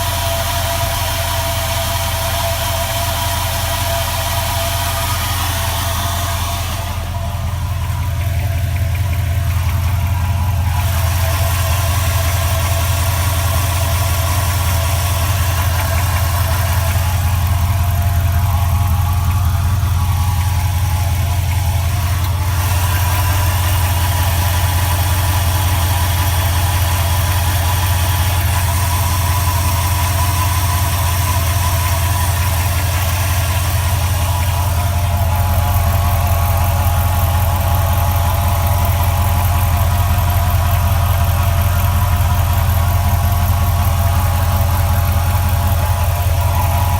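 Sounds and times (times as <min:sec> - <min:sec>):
engine idling: 0:00.0 - 0:46.9
engine tapping: 0:00.0 - 0:46.9.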